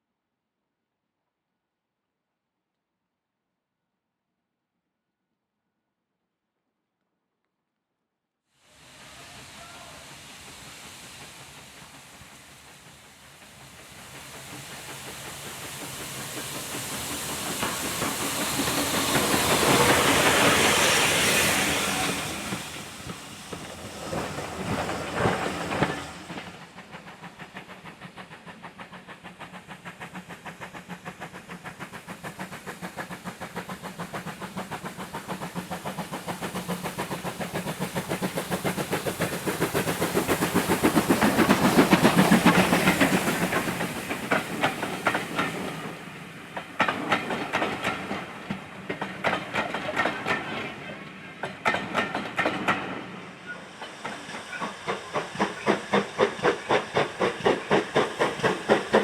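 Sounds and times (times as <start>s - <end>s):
steam hissing rush: 8.6s - 59.0s
steam locomotive exhaust beats: 8.7s - 59.0s.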